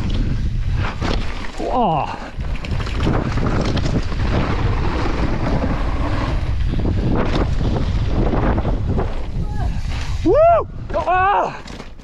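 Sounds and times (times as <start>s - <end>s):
bike knocking and rattling: 0.0s - 10.2s, 10.8s - 12.0s
tyres rumbling on gravel trail: 0.0s - 12.0s
wind noise on microphone: 0.0s - 12.0s.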